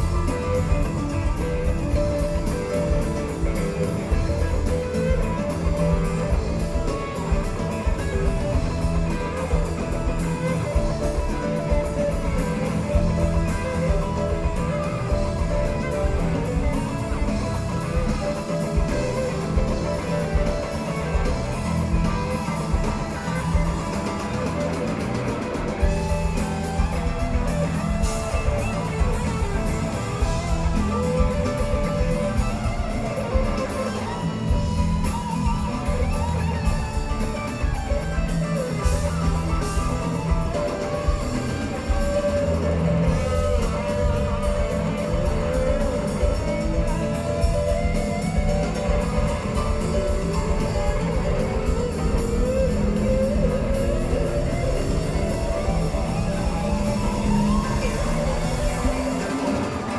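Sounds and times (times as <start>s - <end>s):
electric guitar: 0.0s - 59.9s
live rock band playing: 0.0s - 59.9s.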